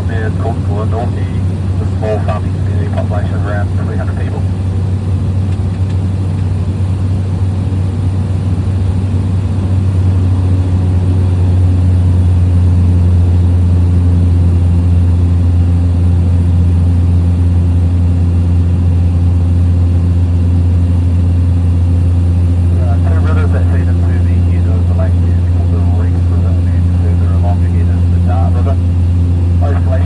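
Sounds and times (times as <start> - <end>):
propeller plane engine droning: 0.0 - 30.0.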